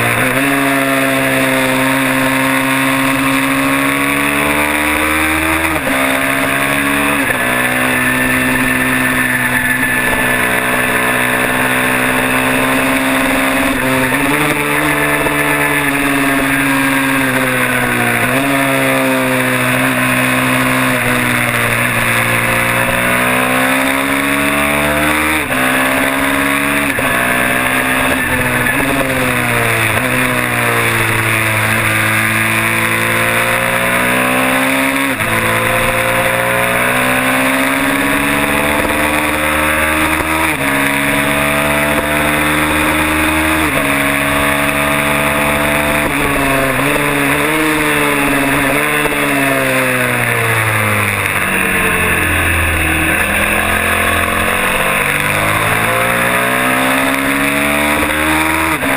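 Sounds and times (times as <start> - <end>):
twin-cylinder race bike engine: 0.0 - 58.9.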